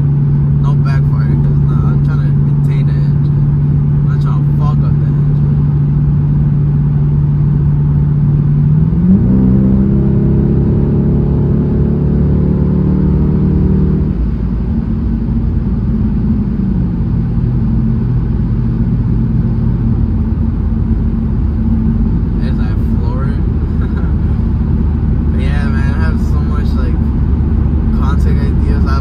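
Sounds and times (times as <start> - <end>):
car engine accelerating: 0.0 - 29.0
road noise: 0.0 - 29.0.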